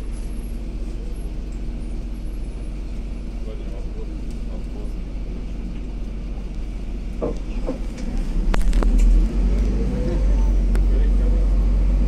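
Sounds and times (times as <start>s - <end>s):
bus cabin rumble: 0.0s - 12.0s.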